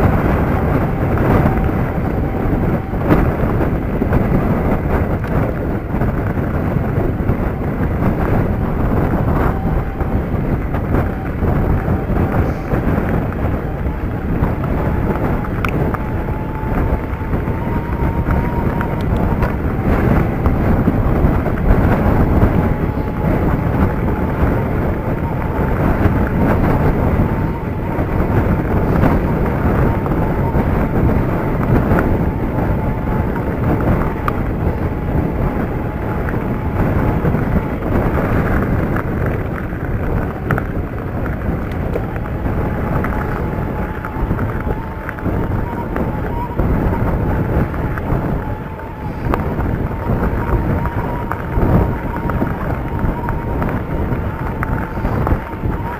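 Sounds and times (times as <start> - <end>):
bike rattling: 0.0 - 55.9
bike tyres on loose stones: 0.0 - 55.9
wind noise on microphone: 0.0 - 55.9.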